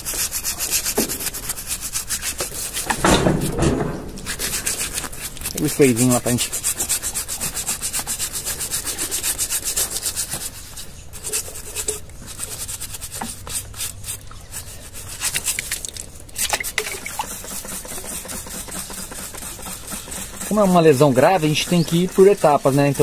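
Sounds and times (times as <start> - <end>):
brush scrubbing wet hoof: 0.0 - 23.0.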